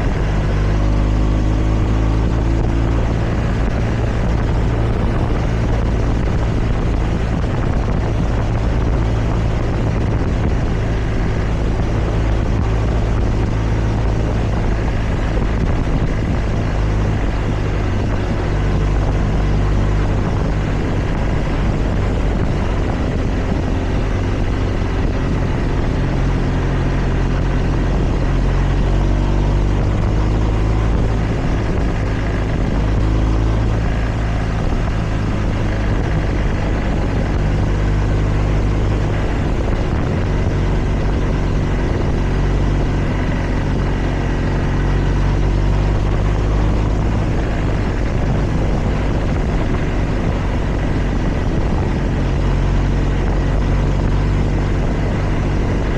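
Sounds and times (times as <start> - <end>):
motorcycle engine running: 0.0 - 55.9
wind noise: 0.0 - 55.9.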